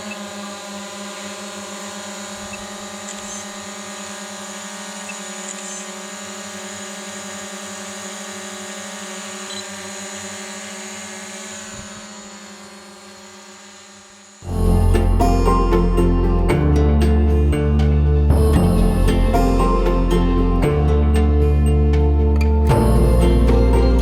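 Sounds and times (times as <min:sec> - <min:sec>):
small motor whining: 0:00.0 - 0:24.0.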